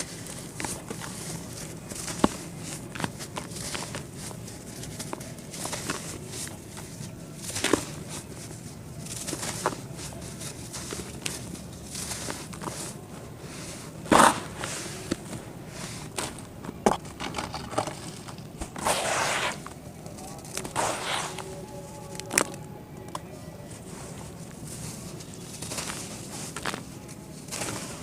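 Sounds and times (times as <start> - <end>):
dry dirt crunching: 0.0 - 28.0.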